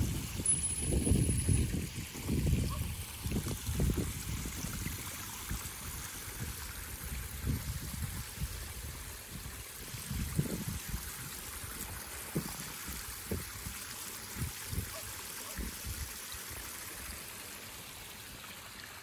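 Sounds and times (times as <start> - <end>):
pond waterfall splashing: 0.0 - 19.0.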